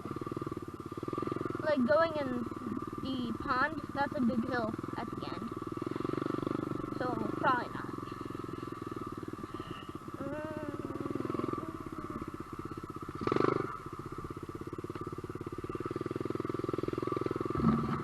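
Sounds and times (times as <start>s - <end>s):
motorbike engine running: 0.0s - 18.0s.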